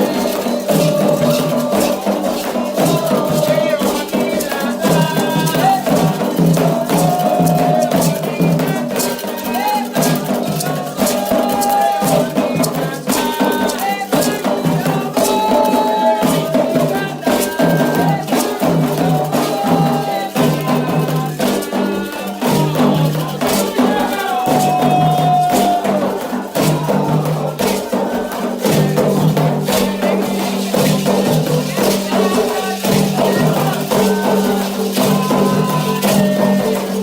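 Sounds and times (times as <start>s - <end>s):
hand drum strokes: 0.0s - 37.0s
people singing: 0.0s - 37.0s
shaken rattle: 0.0s - 37.0s.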